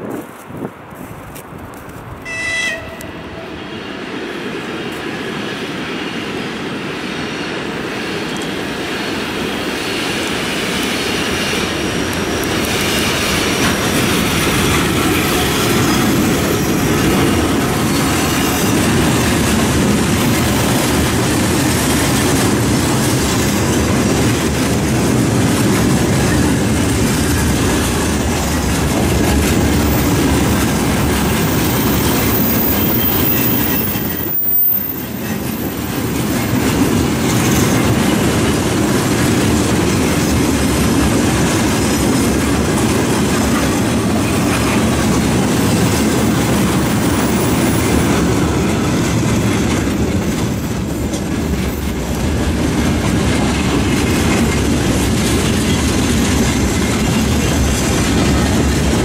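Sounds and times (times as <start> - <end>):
electric locomotive passing: 0.6 - 59.0.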